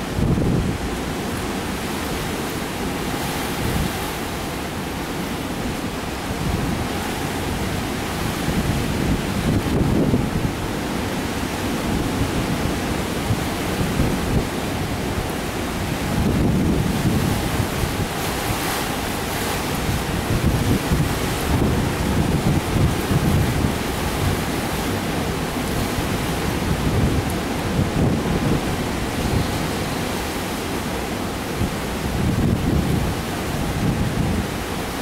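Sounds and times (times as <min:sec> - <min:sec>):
heavy surf crashing: 0:00.0 - 0:35.0
wind buffeting microphone: 0:00.0 - 0:35.0.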